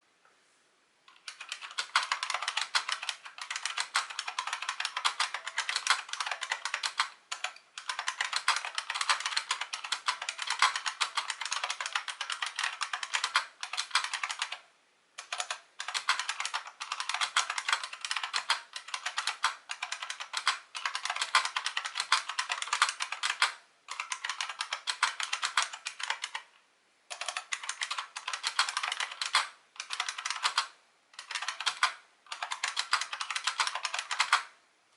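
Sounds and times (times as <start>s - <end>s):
fast keyboard typing: 1.1s - 14.6s, 15.2s - 26.5s, 27.1s - 34.5s.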